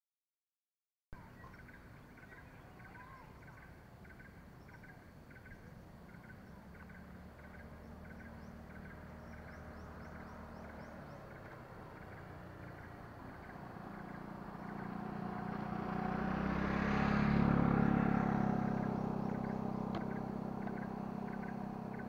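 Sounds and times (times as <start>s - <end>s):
birds calling: 1.2s - 22.0s
distant motorcycle engine: 1.2s - 22.0s
rising bird chirps: 1.2s - 22.0s.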